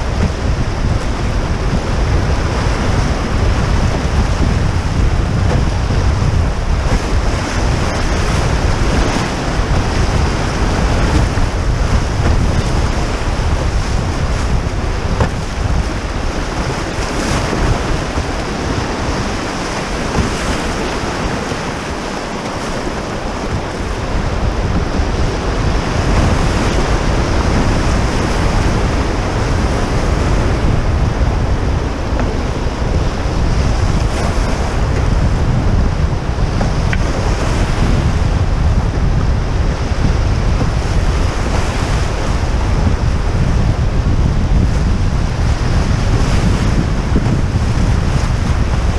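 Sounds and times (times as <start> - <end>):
whitewater rapids rushing: 0.0 - 48.9
wind rumble on microphone: 0.0 - 48.9.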